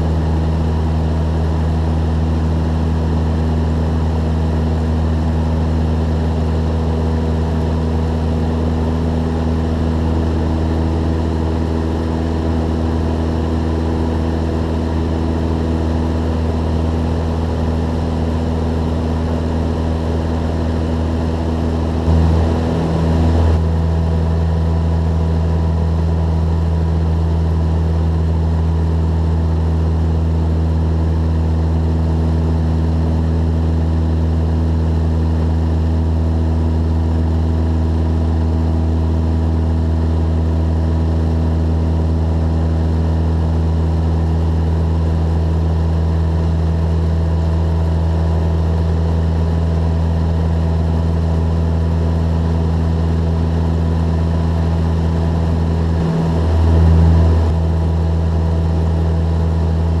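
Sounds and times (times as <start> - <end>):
aircraft engine and propeller droning: 0.0 - 60.0.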